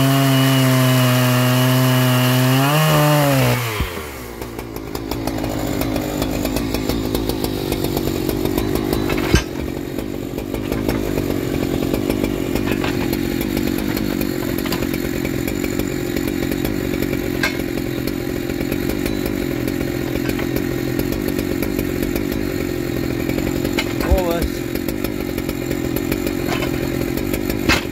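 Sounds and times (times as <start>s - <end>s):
chainsaw engine idling: 0.0s - 27.9s.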